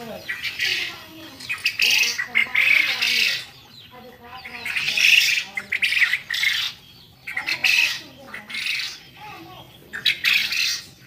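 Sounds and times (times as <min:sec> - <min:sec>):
quail squawking: 0:00.0 - 0:11.0.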